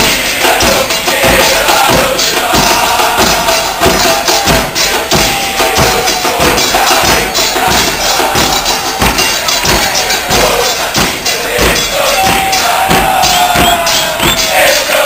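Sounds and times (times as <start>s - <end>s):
drums beating a steady rhythm: 0.0s - 15.0s.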